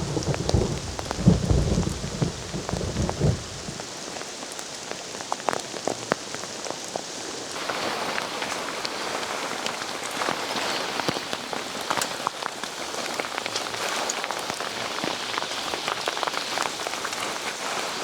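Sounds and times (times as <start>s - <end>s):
raindrops ticking close by: 0.0s - 18.0s
steady rain: 0.0s - 18.0s.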